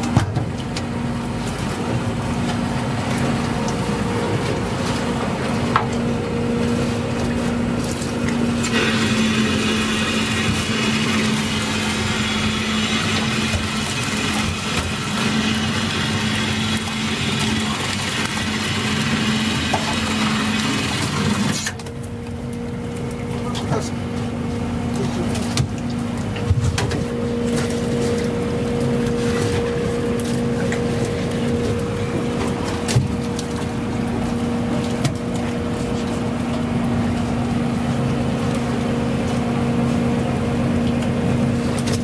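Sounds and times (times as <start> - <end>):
boat engine drone: 0.0 - 42.0
net-hauling machinery running: 0.9 - 42.0.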